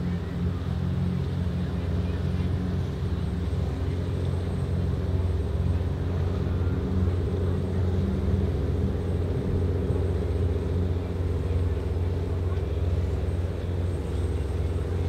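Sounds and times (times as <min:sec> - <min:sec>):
yacht engines droning: 0:00.0 - 0:15.0.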